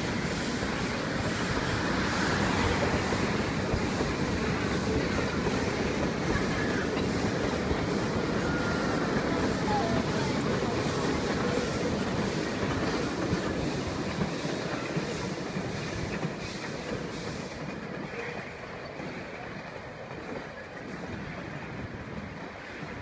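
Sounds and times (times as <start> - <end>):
train carriages rumbling over bridge: 0.0 - 23.0.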